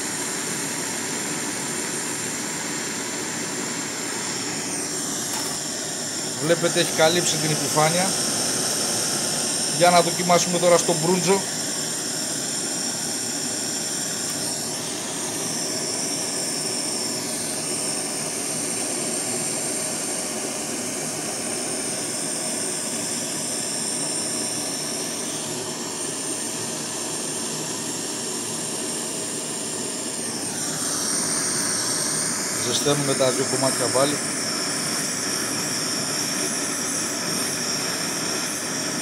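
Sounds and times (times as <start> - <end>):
gas torch hissing: 0.0 - 39.0.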